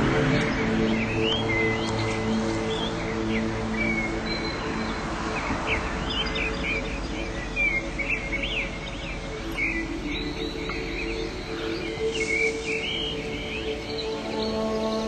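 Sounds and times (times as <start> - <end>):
background music with low notes: 0.0 - 15.0
small birds chirping: 0.0 - 15.0.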